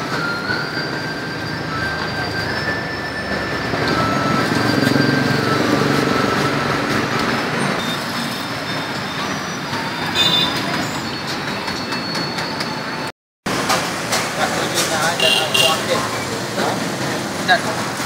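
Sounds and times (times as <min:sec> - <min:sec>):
traffic road rumble: 0:00.0 - 0:18.0.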